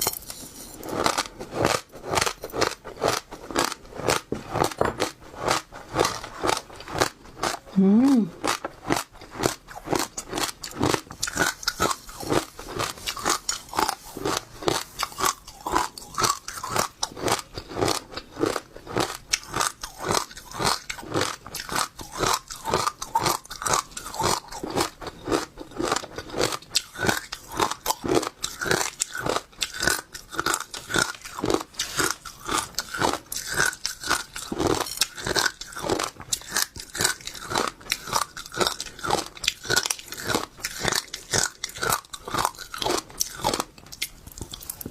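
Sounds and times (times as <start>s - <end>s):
seeds crunching while chewed: 0.0s - 44.9s.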